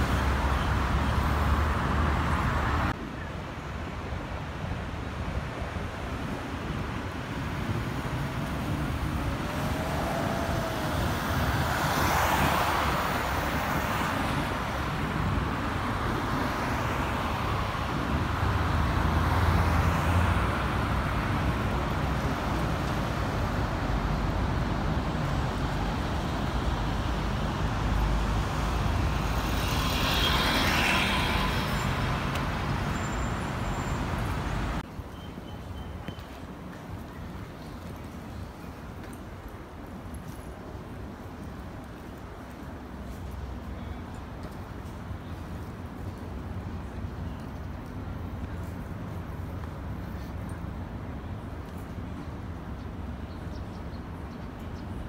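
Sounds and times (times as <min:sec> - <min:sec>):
cars and buses driving past: 0:00.0 - 0:55.0.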